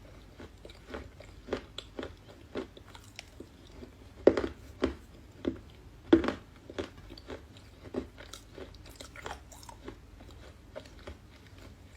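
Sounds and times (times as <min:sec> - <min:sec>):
clay being chewed with crunches: 0:00.0 - 0:11.9.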